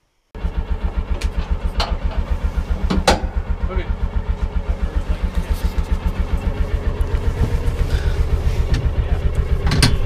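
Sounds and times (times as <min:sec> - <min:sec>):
utility vehicle engine idling: 0:00.4 - 0:10.0.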